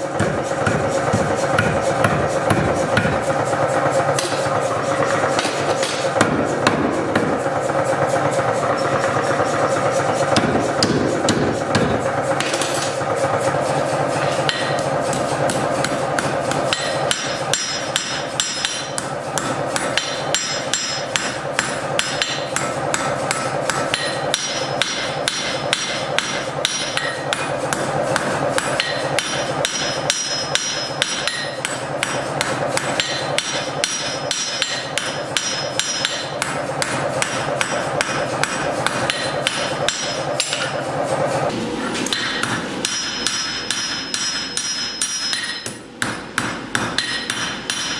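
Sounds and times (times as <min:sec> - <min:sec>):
hammer striking steel on anvil: 0:00.0 - 0:41.0, 0:41.9 - 0:47.9.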